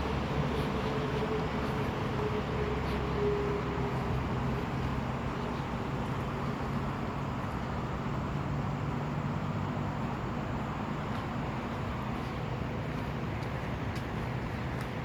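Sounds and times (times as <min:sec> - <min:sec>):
motor vehicle engine hum: 0:00.0 - 0:15.0.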